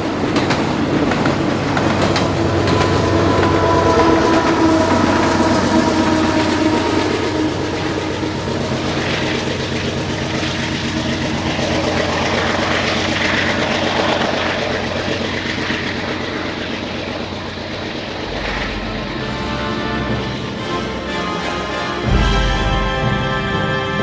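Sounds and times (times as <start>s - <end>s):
diesel locomotive engine running: 0.0s - 24.0s
train wheels on rails: 0.0s - 24.0s.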